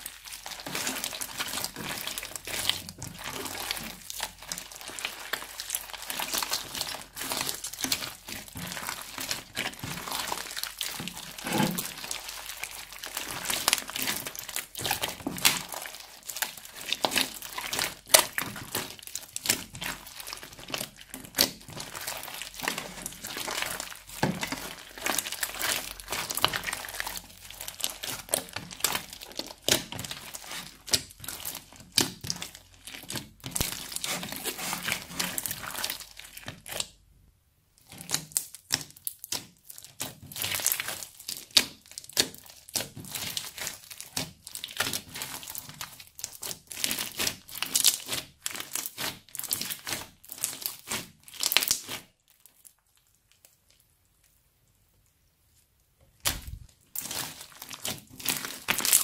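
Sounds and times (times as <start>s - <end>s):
crunchy slime crackling: 0.0s - 37.0s, 37.8s - 54.4s, 56.1s - 59.0s.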